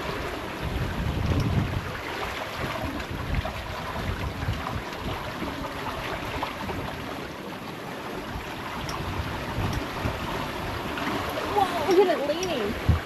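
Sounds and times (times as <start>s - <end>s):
wind buffeting microphone: 0.0s - 7.3s, 8.2s - 13.0s
water rushing around boat: 0.0s - 13.0s.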